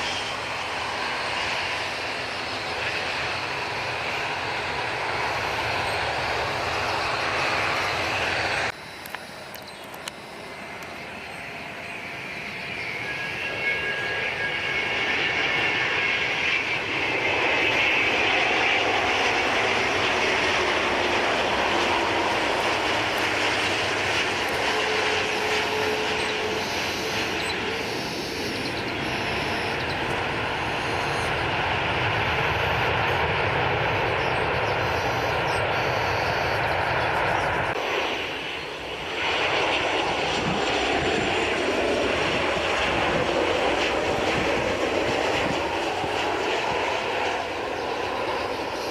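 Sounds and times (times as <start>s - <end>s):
airliner engines: 0.0s - 48.9s.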